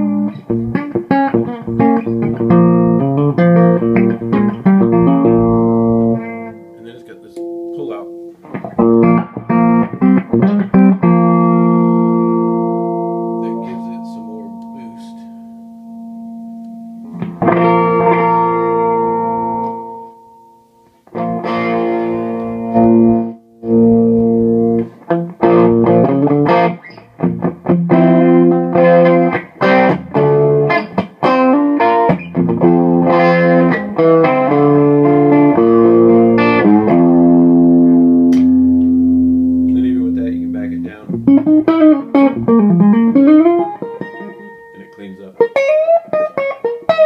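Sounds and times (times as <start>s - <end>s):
overdriven electric guitar chords: 0.0s - 47.0s.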